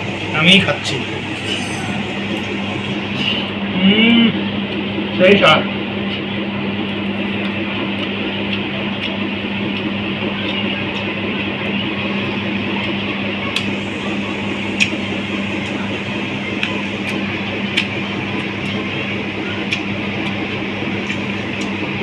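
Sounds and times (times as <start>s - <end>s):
steady background hum and hiss: 0.0s - 22.0s.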